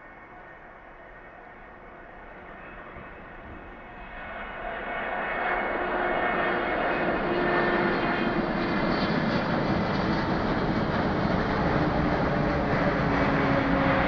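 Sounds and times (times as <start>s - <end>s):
jet engines at take-off: 0.0s - 14.0s.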